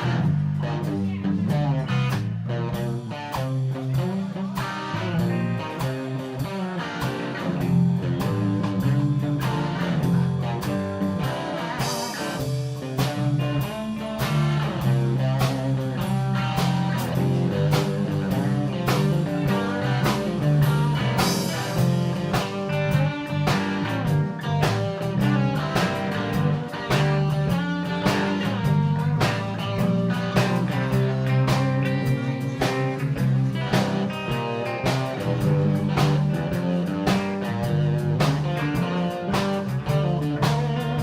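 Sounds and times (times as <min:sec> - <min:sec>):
live blues band playing: 0:00.0 - 0:41.0.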